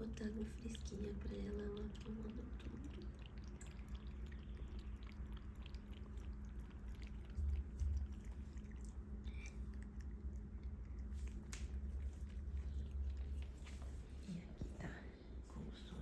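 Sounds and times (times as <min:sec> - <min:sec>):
cat lapping water: 0:00.0 - 0:14.2.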